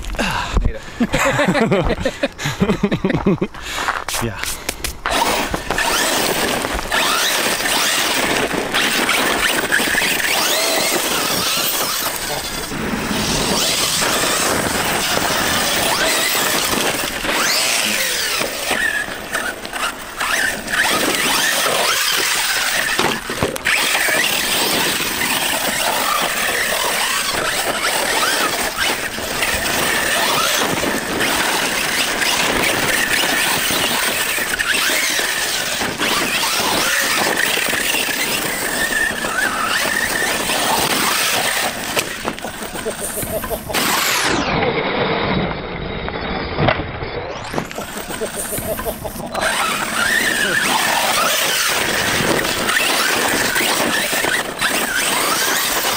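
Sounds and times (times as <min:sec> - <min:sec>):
rc truck motor whine: 0:04.8 - 0:55.9.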